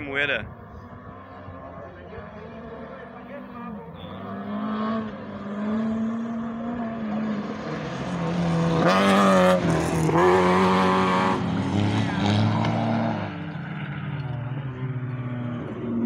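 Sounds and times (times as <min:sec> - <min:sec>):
racing car engines passing: 0:00.0 - 0:16.0.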